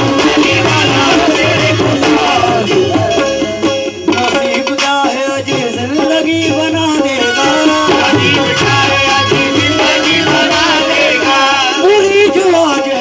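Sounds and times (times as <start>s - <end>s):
hand drum beat: 0.0s - 13.0s
harmonium: 0.0s - 13.0s
men singing: 0.0s - 13.0s.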